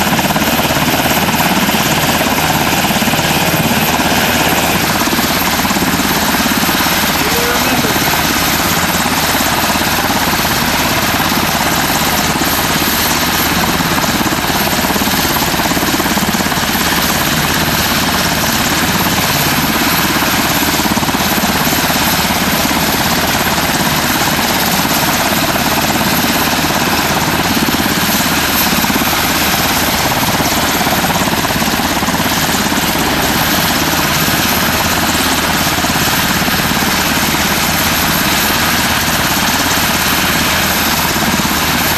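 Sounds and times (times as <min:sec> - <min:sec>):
helicopter rotor: 0:00.0 - 0:41.9
helicopter turbine whine: 0:00.0 - 0:41.9.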